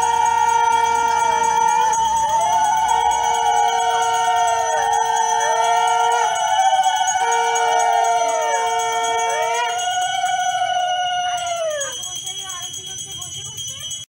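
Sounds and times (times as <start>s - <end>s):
hand bell ringing: 0.0s - 14.0s.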